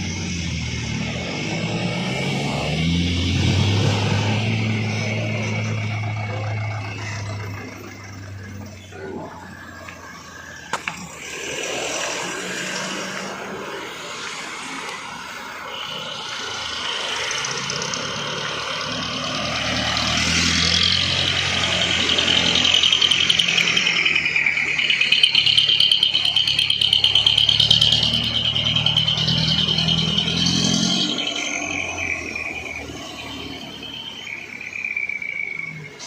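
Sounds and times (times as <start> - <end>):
high whine: 0.0 - 36.0
truck engine labouring: 0.0 - 36.0.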